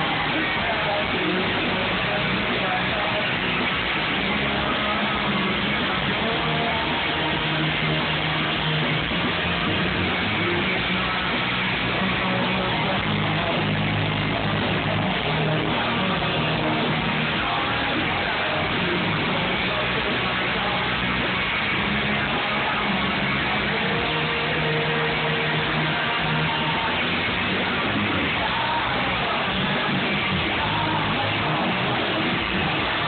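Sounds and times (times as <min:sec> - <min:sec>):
drum kit: 0:00.0 - 0:33.0
electric guitar: 0:00.0 - 0:33.0
rock band playing live: 0:00.0 - 0:33.0.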